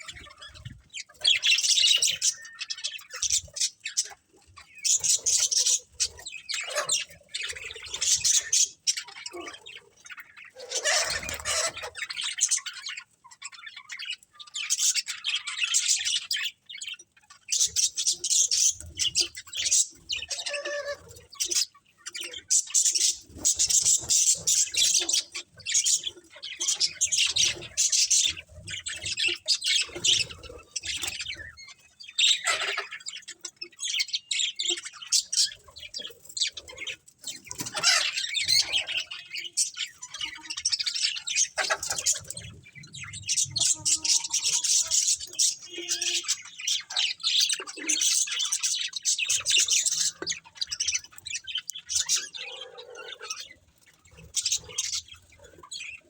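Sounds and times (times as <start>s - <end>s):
bird squawks: 0.0s - 16.3s, 17.5s - 56.0s
budgerigars chirping and chattering: 0.0s - 56.0s.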